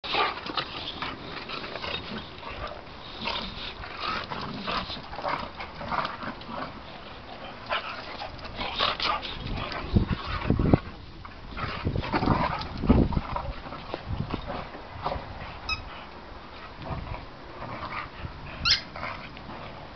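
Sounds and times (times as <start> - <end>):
dogs play-fighting noises: 0.0 - 19.9.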